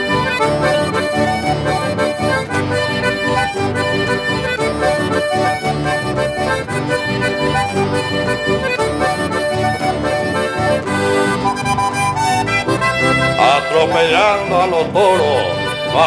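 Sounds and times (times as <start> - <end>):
bass: 0.0 - 16.0
button accordion melody: 0.0 - 16.0
strummed guitars: 0.0 - 16.0.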